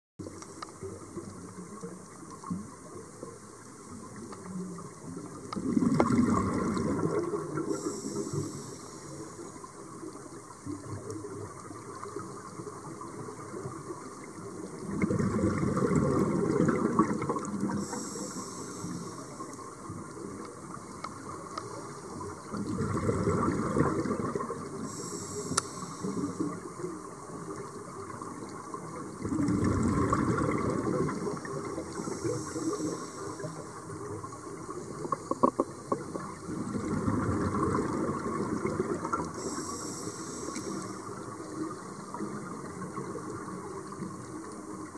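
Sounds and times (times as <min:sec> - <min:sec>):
faint hissing: 0:00.2 - 0:44.9
regulator exhale bubbles underwater: 0:04.8 - 0:44.9.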